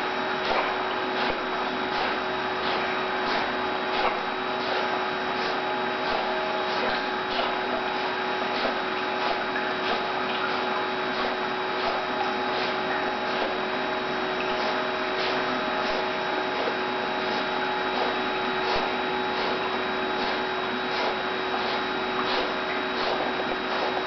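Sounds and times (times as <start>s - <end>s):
pool pump and jets humming: 0.0s - 24.0s
water churning: 0.0s - 24.0s.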